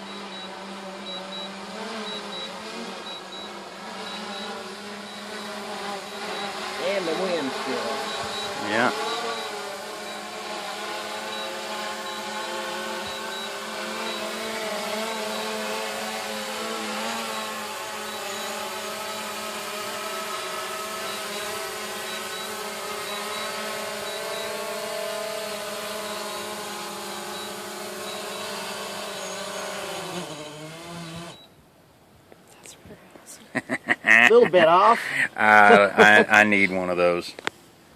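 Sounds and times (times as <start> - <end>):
drone propellers buzzing: 0.0 - 31.4.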